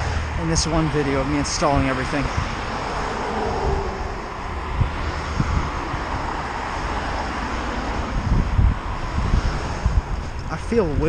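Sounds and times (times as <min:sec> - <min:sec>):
car traffic passing: 0:00.0 - 0:11.0
wind buffeting microphone: 0:00.0 - 0:11.0.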